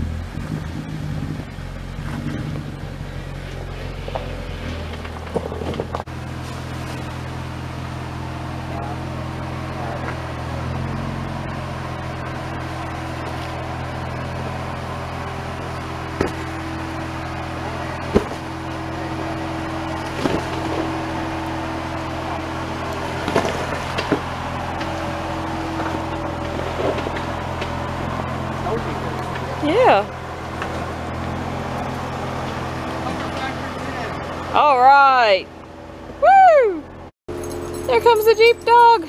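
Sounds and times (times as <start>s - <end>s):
engine running low and steady: 0.0s - 39.0s.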